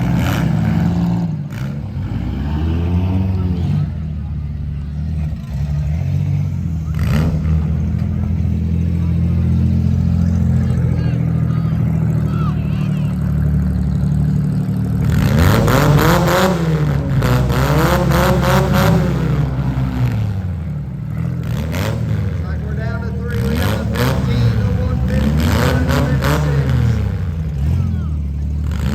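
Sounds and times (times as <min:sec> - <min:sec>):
car engines droning: 0:00.0 - 0:28.9
engine revving hard: 0:00.0 - 0:28.9.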